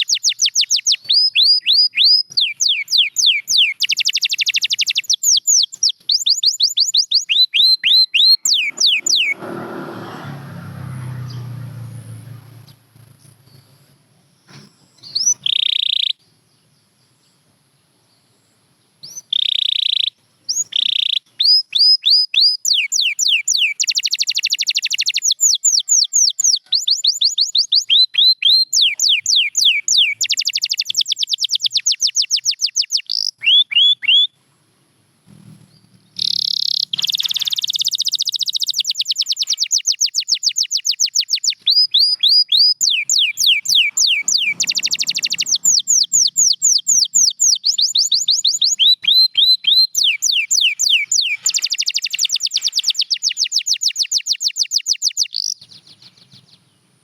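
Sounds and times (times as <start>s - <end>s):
canary singing: 0.0s - 10.1s, 14.5s - 16.3s, 19.0s - 34.4s, 35.3s - 56.6s.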